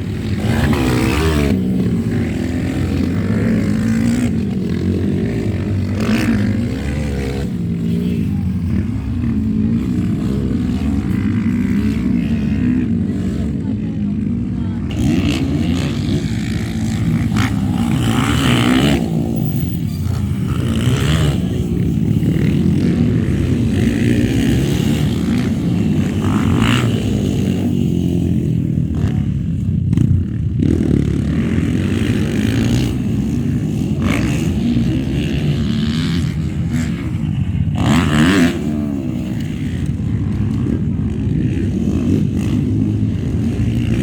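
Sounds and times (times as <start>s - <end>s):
motocross engines revving: 0.0s - 44.0s.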